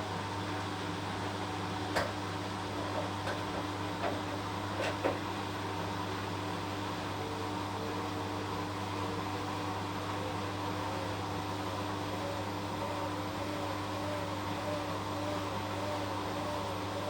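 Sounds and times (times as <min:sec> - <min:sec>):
washing machine running: 0:00.0 - 0:17.0.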